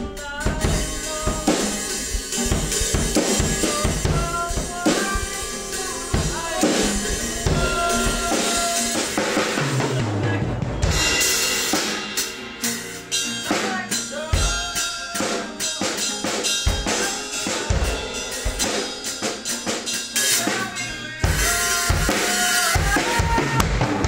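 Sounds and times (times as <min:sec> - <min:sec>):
drums played loudly: 0:00.0 - 0:24.0
strummed acoustic guitar: 0:00.0 - 0:24.0.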